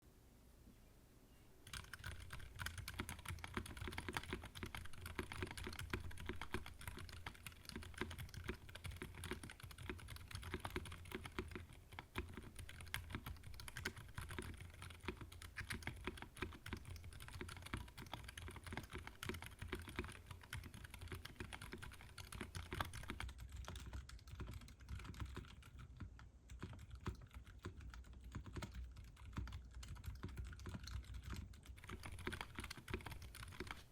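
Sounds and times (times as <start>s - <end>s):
fast typing on mechanical keyboard: 1.6s - 33.9s.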